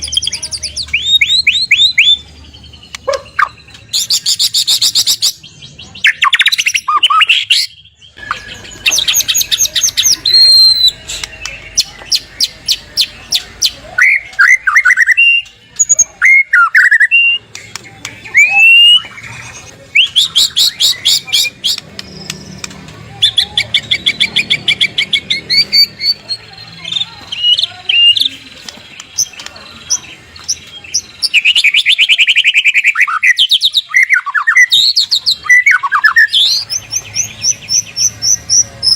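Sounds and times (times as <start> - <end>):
songbird singing rattling notes: 0.0 - 38.9.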